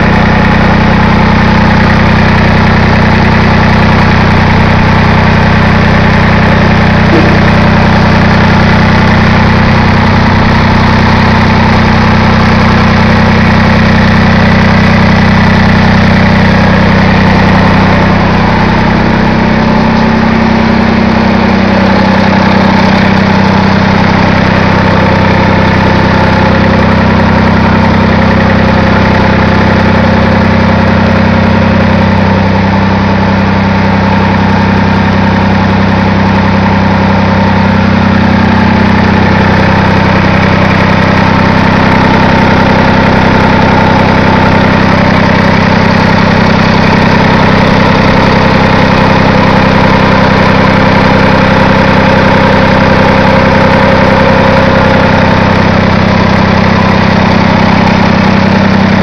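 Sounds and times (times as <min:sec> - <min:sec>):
diesel tractor engine idling: 0:00.0 - 0:59.0.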